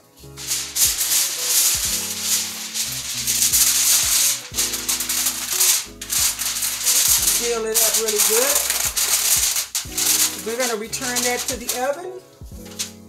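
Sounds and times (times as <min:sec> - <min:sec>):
background music: 0:00.0 - 0:13.0
aluminium foil crinkling: 0:00.2 - 0:12.9.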